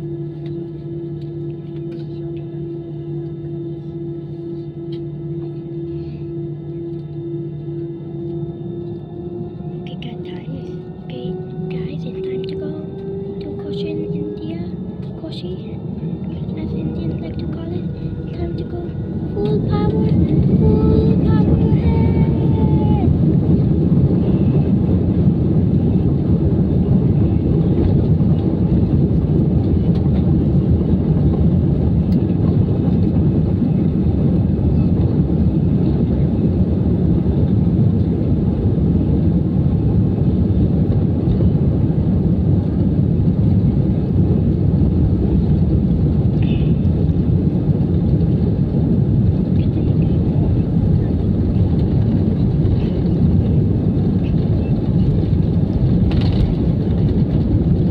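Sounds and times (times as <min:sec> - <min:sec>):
airliner cabin engine rumble: 0:00.0 - 0:57.9.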